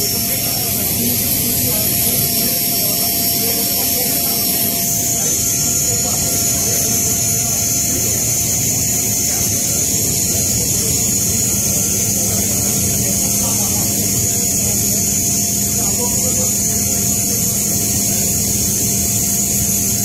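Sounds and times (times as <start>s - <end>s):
aircraft roar with high hiss: 0.0s - 20.0s.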